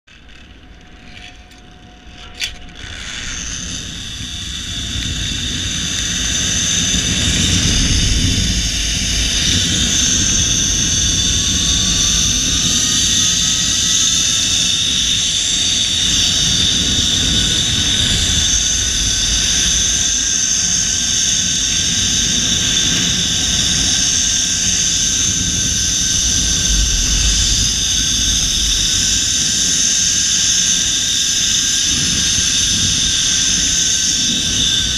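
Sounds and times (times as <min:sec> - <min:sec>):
wind rumbling on microphone: 0:00.1 - 0:34.9
zip line pulleys whining on cable: 0:00.1 - 0:34.9.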